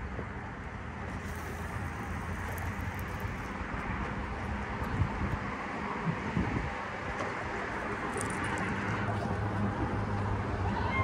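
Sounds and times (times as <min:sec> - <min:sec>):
wind noise: 0:01.1 - 0:10.0.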